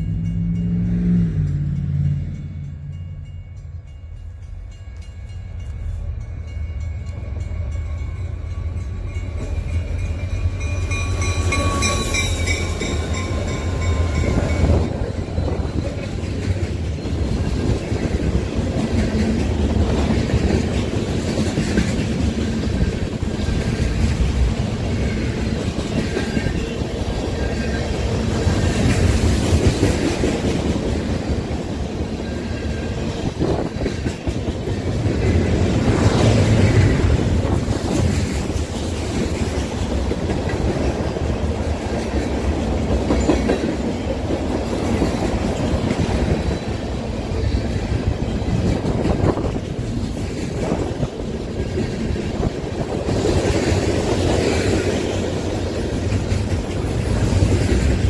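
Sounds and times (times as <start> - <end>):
diesel locomotive rumble: 0.0 - 58.0
train wheels clattering: 7.9 - 58.0.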